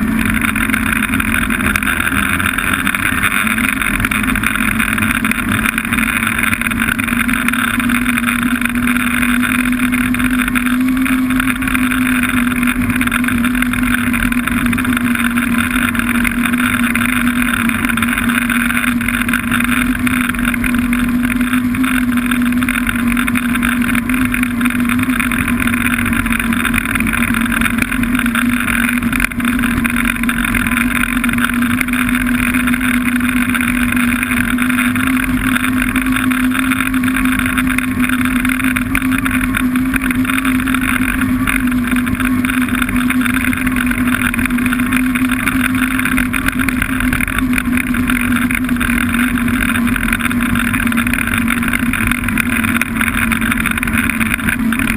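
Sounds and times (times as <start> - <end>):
snowmobile engine droning: 0.0 - 54.9.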